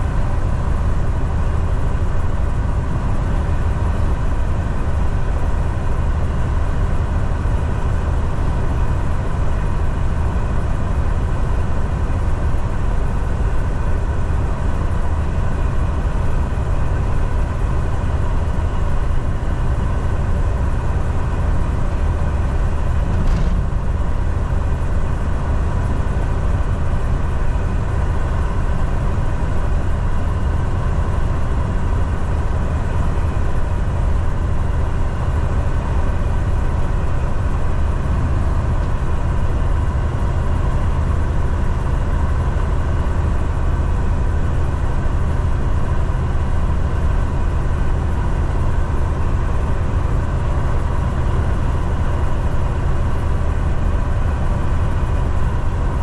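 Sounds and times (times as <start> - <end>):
truck engine and tyre drone: 0.0 - 56.0.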